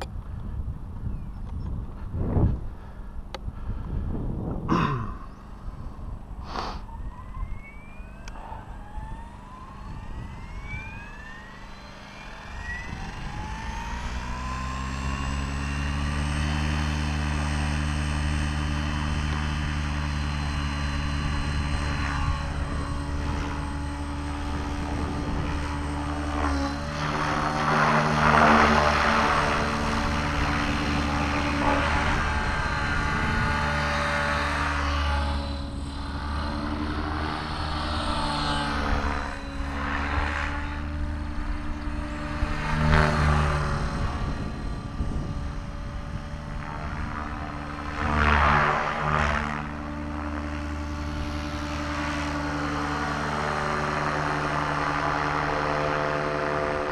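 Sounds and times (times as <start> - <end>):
helicopter rushing noise: 0.0 - 56.9
rc helicopter motor whine: 0.0 - 56.9.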